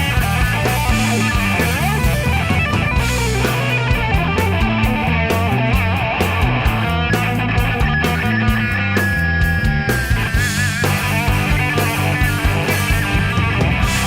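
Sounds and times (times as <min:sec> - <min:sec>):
bass: 0:00.0 - 0:14.0
electric guitar lead line: 0:00.0 - 0:14.0
steady drum beat: 0:00.0 - 0:14.0.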